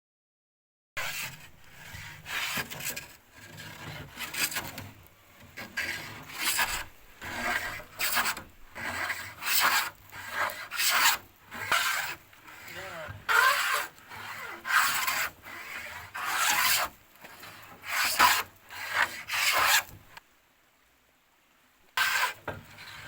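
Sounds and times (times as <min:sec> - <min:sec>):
hand tool scraping wood: 0:01.0 - 0:20.1, 0:22.0 - 0:23.0.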